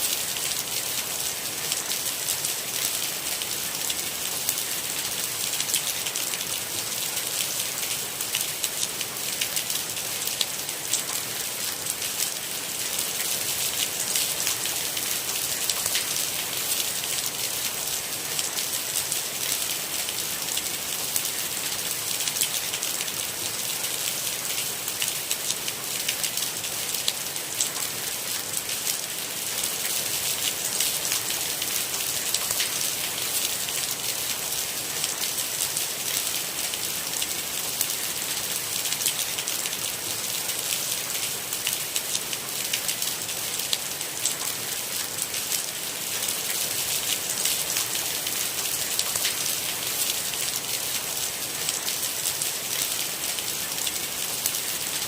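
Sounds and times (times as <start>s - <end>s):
rain falling on a vehicle: 0.0s - 55.0s.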